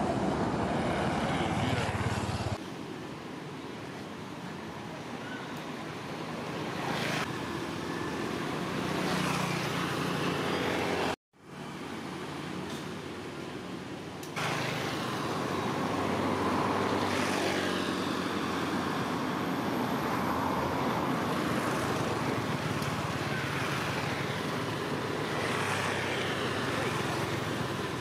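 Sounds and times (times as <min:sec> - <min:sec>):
vehicles passing: 0:00.0 - 0:02.6, 0:04.4 - 0:28.0
street traffic noise: 0:00.0 - 0:28.0.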